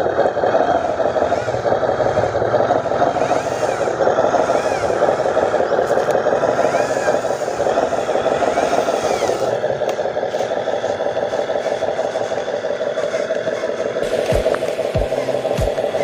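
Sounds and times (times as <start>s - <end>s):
electric motor and gearbox whining: 0.0s - 16.0s.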